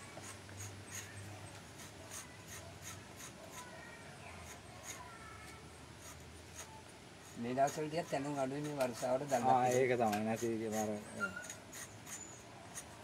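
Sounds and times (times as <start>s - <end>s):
blade scraping bark: 0.0s - 5.1s, 6.0s - 13.0s.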